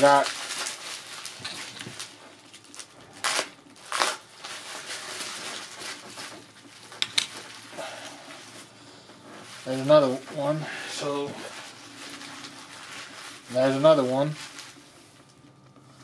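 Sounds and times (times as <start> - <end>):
bubble wrap crinkling: 0.0 - 16.0.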